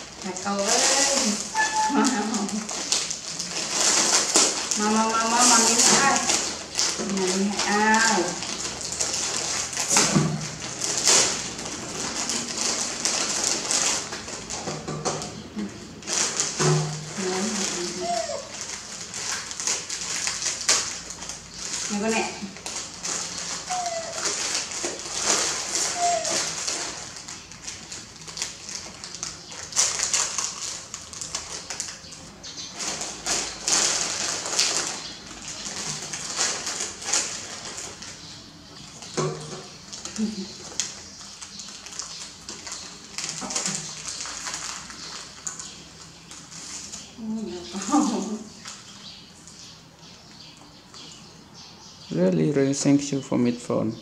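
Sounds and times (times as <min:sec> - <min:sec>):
plastic packaging crinkling: 0:00.0 - 0:52.3.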